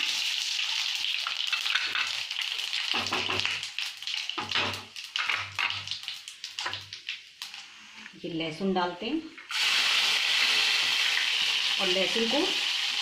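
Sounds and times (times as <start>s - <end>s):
spices sizzling in hot oil: 0.0s - 7.8s, 9.5s - 13.0s.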